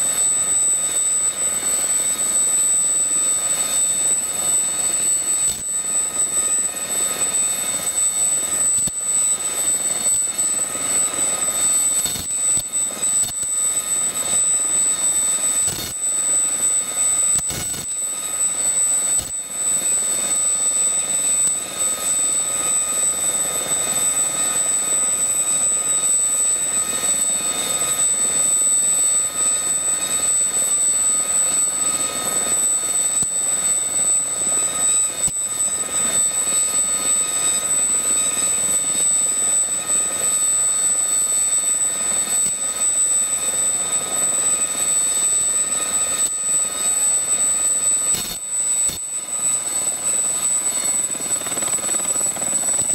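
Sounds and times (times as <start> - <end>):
helicopter turbine whine: 0.0 - 52.9.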